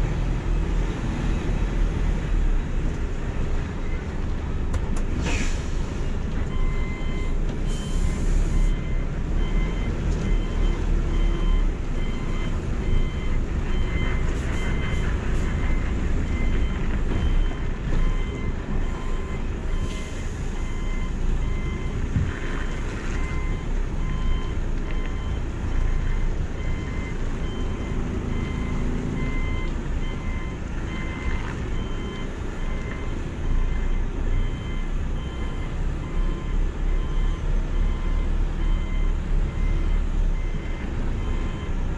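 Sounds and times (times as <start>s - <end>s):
reversing alarm beeps: 6.5s - 22.0s, 23.2s - 41.8s.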